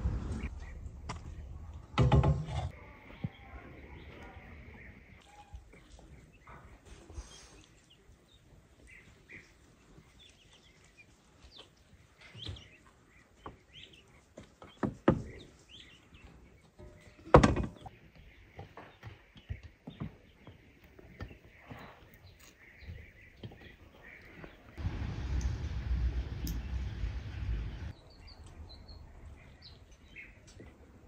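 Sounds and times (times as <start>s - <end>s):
birds chirping faintly: 2.6s - 31.0s.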